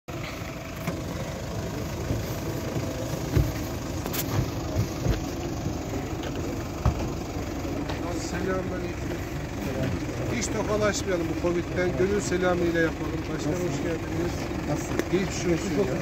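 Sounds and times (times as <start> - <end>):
suv engine idling: 0.1 - 16.0.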